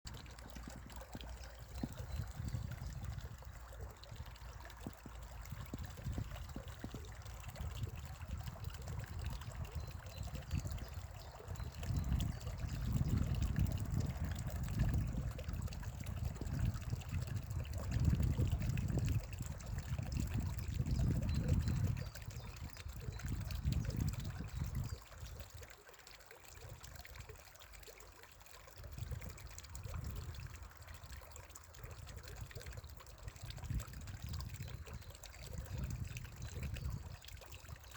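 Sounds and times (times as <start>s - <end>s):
water trickling: 0.1s - 37.9s.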